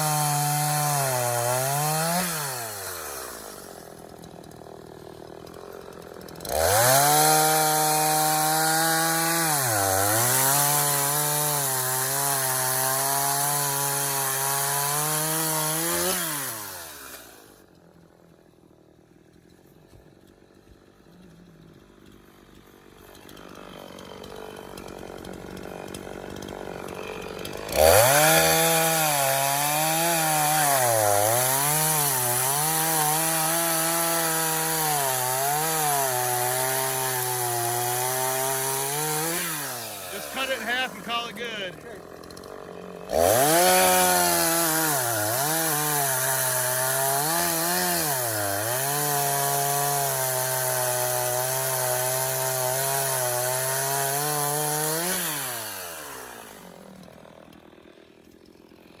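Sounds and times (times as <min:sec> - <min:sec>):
chainsaw cutting log: 0:00.0 - 0:59.0
chainsaw idling: 0:00.0 - 0:59.0.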